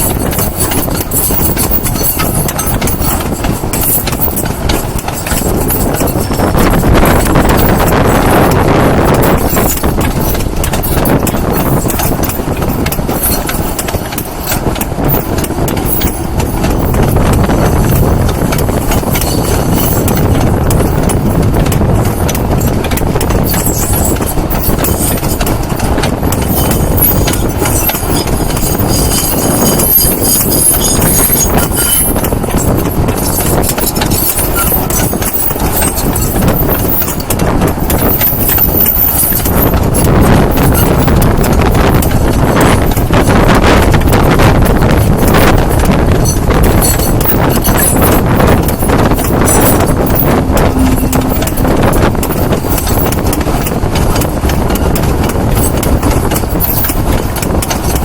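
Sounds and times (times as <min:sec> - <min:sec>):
train wagon wheels clattering: 0:00.0 - 0:58.0.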